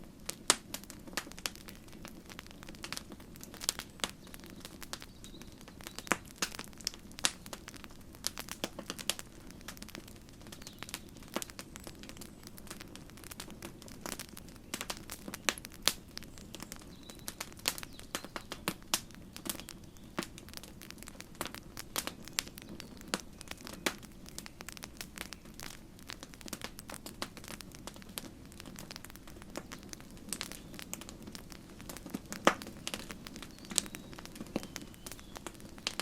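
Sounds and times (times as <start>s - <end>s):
campfire wood popping and snapping: 0.0s - 36.0s
rush of flames: 0.1s - 36.0s.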